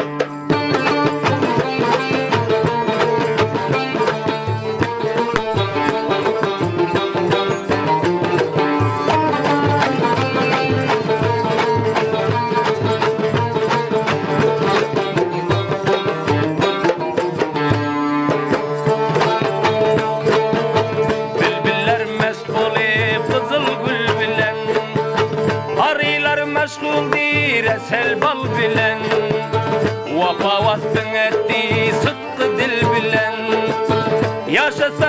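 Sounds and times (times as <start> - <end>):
hand drum beat: 0.0 - 35.0
plucked lutes playing melody: 0.0 - 35.0.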